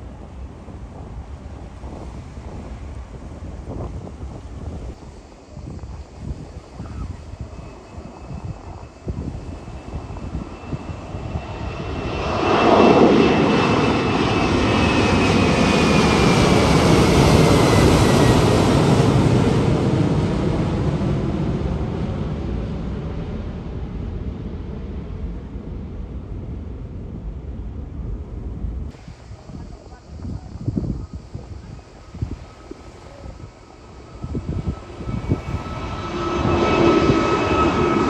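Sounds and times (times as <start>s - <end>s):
airliner passing overhead: 0.0s - 38.0s
jet engine whine: 0.0s - 38.0s.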